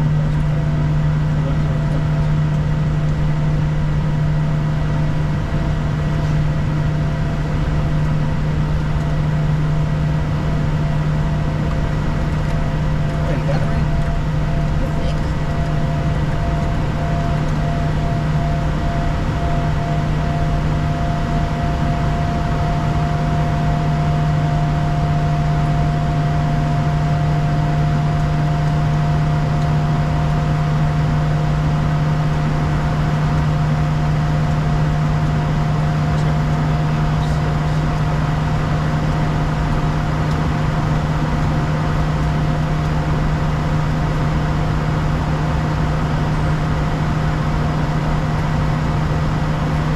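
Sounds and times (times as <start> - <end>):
jet engines droning: 0.0 - 49.9.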